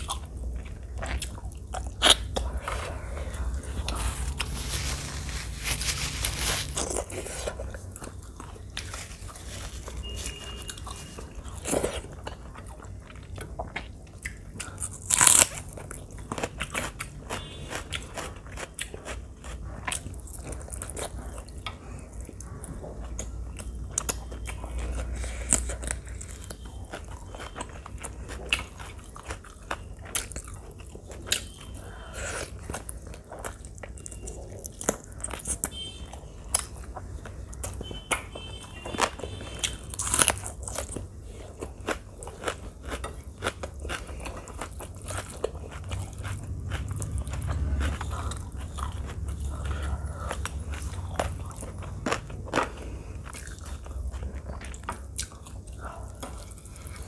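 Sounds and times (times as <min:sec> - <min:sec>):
loud food crunch: 0:00.0 - 0:57.0.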